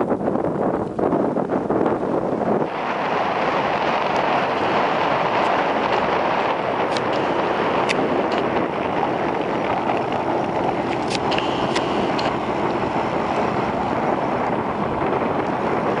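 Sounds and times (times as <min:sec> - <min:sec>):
boat hull rushing through water: 0:00.0 - 0:16.0
outboard motor running: 0:02.6 - 0:16.0.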